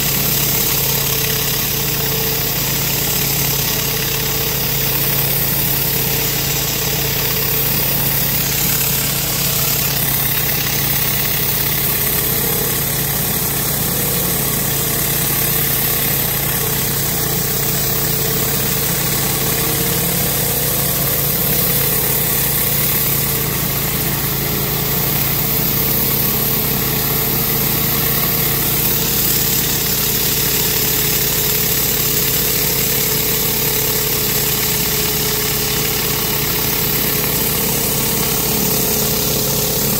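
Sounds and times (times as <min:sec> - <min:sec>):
high-pressure water spraying on concrete: 0:00.0 - 0:39.9
pressure washer engine running: 0:00.0 - 0:39.9.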